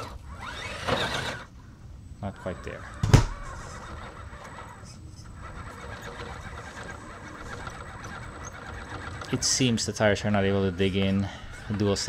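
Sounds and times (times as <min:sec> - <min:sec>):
rc car motor whining: 0:00.0 - 0:01.6, 0:02.2 - 0:12.0.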